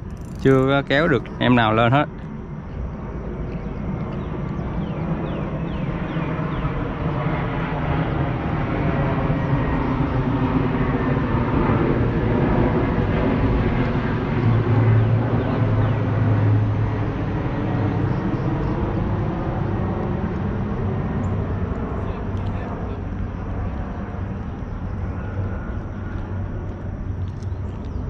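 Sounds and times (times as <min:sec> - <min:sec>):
outdoor background noise: 0:00.0 - 0:28.0
passing engine drone: 0:00.0 - 0:28.0.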